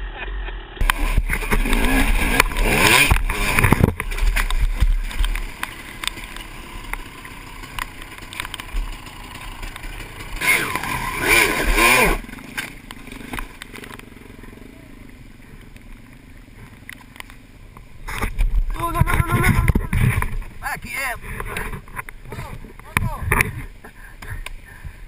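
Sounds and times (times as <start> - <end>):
dirt bike engine revving: 0.8 - 23.8.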